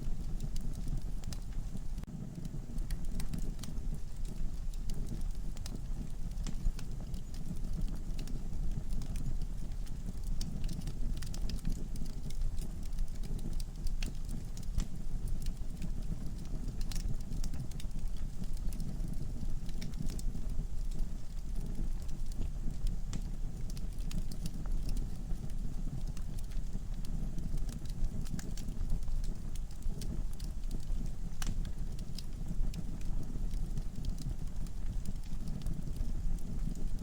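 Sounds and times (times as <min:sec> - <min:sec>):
burning logs crackling and popping: 0:00.0 - 0:37.0
fire low rumble: 0:00.0 - 0:37.0.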